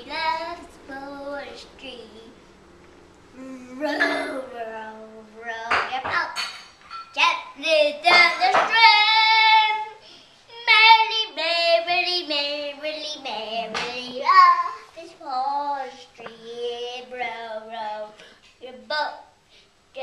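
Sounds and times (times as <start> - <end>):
boy singing: 0.0 - 2.4, 3.4 - 6.5, 7.1 - 19.3.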